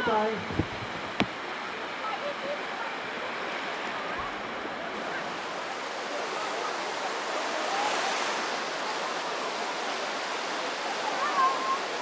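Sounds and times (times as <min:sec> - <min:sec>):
waves breaking on sandy beach: 0:00.0 - 0:12.0.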